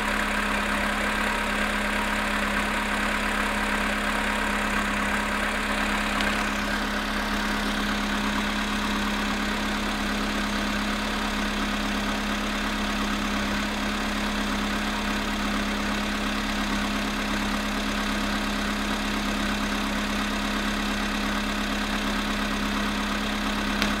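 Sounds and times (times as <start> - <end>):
cold car engine idling with knock: 0.0 - 24.0.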